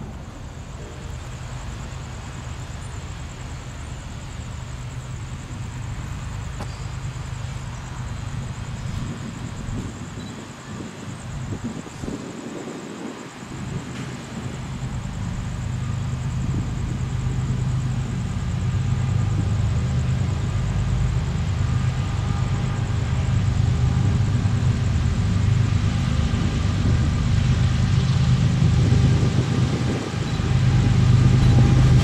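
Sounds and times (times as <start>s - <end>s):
engine humming and rumbling: 0.0s - 10.3s, 13.5s - 32.0s.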